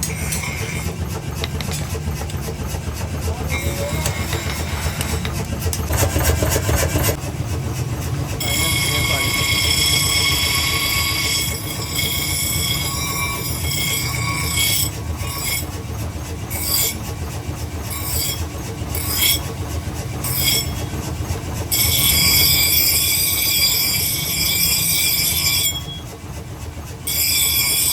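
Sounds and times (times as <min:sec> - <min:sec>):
motorised tool rumble and whine: 0:00.0 - 0:27.9.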